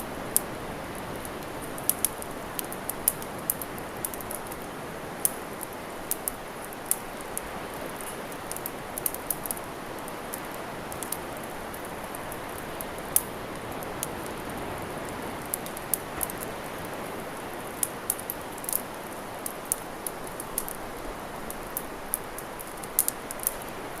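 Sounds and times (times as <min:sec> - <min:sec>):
sea waves: 0:00.0 - 0:24.0
wood fire crackling and popping: 0:00.0 - 0:24.0.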